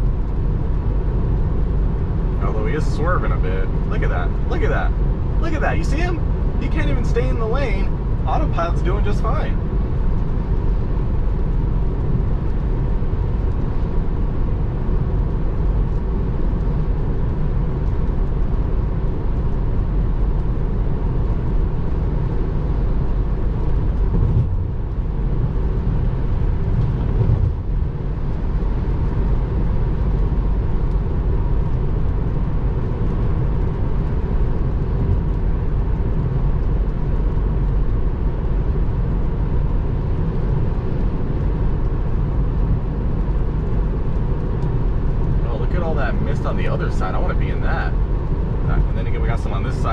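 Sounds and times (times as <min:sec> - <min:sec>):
road and tyre noise in car: 0:00.0 - 0:49.9.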